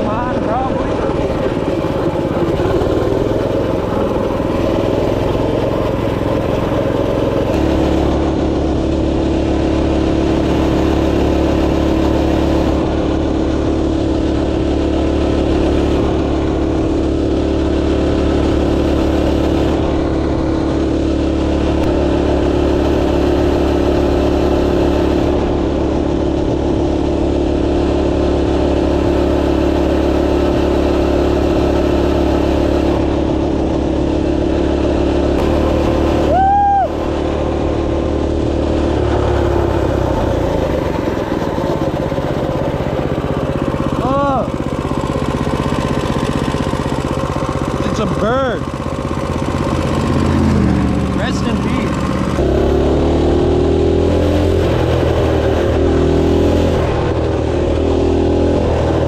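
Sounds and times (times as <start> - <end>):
minibike engine running: 0.0 - 59.0.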